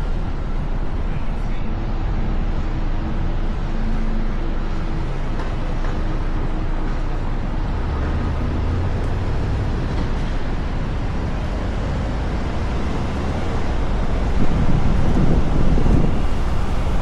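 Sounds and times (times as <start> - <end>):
vehicle rumble and road noise: 0.0 - 17.0.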